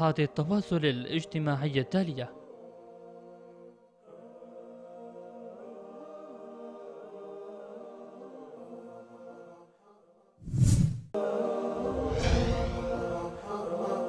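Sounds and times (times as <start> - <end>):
voices singing sustained chords: 0.0 - 10.1, 11.2 - 14.0.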